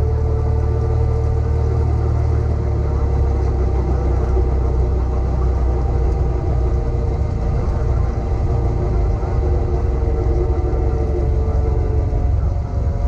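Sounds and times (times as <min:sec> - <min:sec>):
propeller plane engine: 0:00.0 - 0:13.0.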